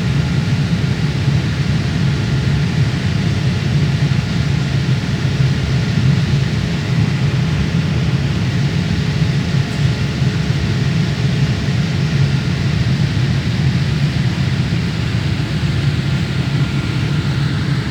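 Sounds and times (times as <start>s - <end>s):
jet engine rumble in cabin: 0.0s - 17.9s.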